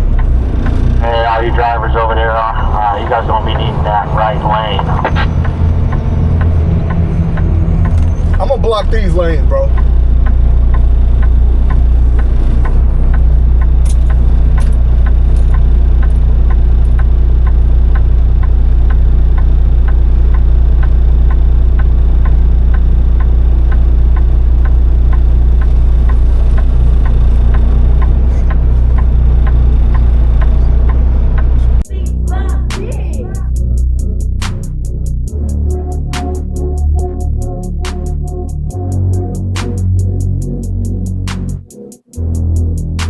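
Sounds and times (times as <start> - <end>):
road noise inside cab: 0.0 - 41.6
truck diesel engine drone: 0.0 - 43.0
turn signal ticking: 0.0 - 43.0.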